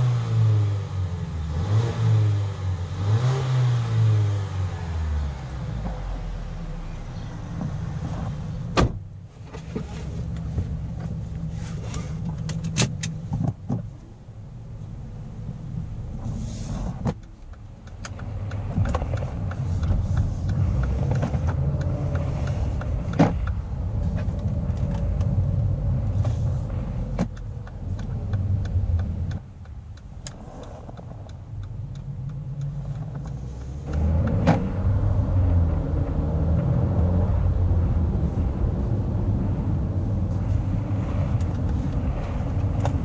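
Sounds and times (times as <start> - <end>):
car engine from inside cabin: 0.0 - 43.0
road noise: 0.0 - 43.0.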